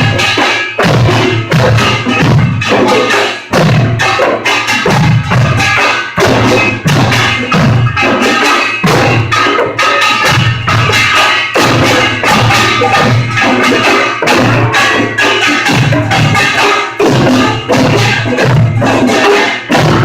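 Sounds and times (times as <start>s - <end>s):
drum beats: 0.0s - 20.0s
small gongs clanging: 0.0s - 20.0s.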